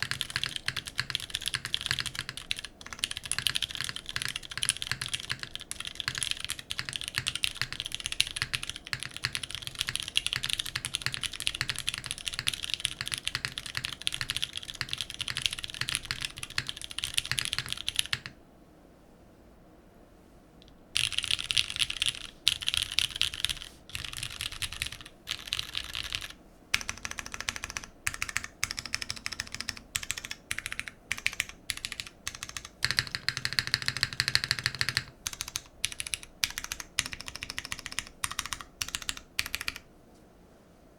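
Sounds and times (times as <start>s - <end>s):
mechanical keyboard typing: 0.0s - 18.3s, 21.0s - 39.9s.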